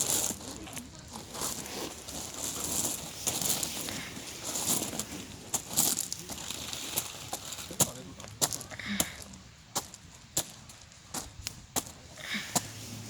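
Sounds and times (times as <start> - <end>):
campfire crackling and popping: 0.0 - 12.8.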